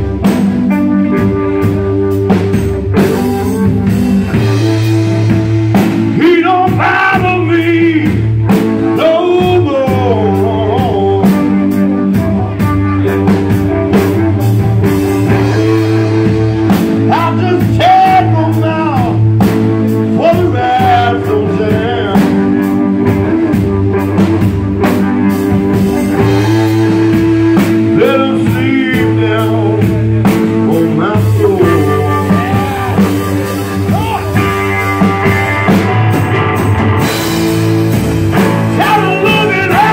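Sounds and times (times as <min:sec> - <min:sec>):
blues rock band playing: 0:00.0 - 0:39.9
electric guitar bent notes: 0:00.0 - 0:39.9.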